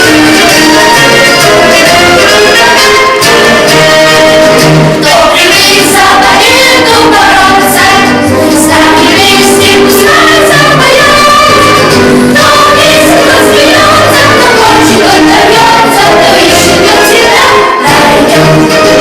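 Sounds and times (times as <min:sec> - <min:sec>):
instrumental accompaniment: 0:00.0 - 0:19.0
vocal ensemble singing in chorus: 0:00.0 - 0:19.0.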